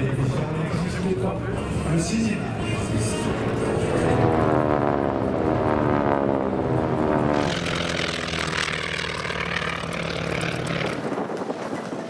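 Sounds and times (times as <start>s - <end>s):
biplane engine and propeller: 0.0s - 12.0s.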